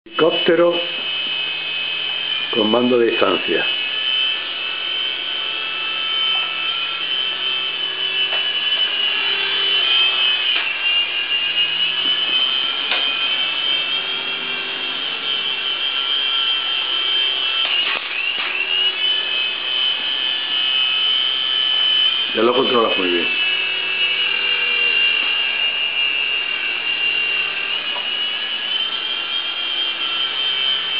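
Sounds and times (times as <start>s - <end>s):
toy helicopter rotors whining: 0.2s - 30.9s.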